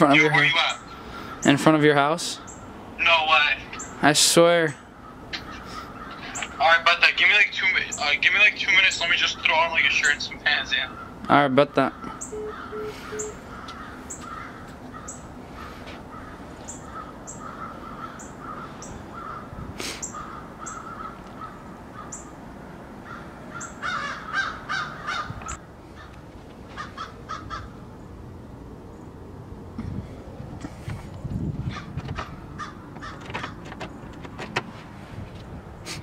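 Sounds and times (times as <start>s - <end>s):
harsh bird calls: 0.0s - 22.4s, 23.0s - 28.2s, 31.6s - 34.1s
birds chirping: 0.0s - 34.6s.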